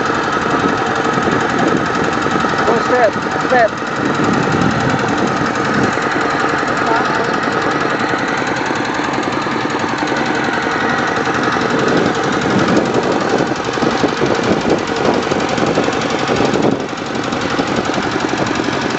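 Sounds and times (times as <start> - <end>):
walking tractor diesel engine: 0.0 - 18.9.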